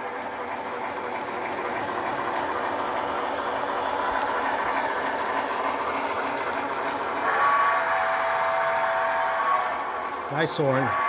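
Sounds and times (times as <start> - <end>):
model train running on track: 0.0 - 11.0
steam locomotive sound effects: 0.0 - 11.0.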